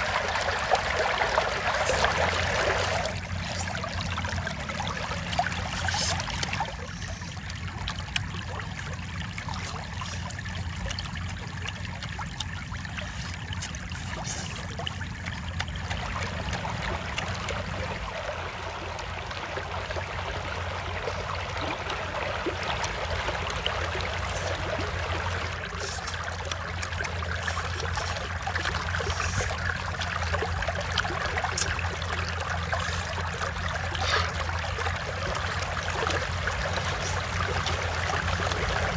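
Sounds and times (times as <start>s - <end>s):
shallow water trickling: 0.0s - 38.9s.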